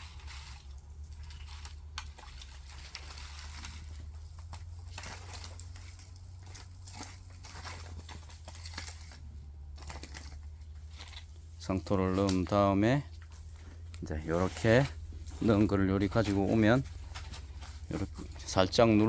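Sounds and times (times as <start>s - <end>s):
soil rustling on plastic tray: 0.0s - 19.0s
steady low hum: 0.0s - 19.0s.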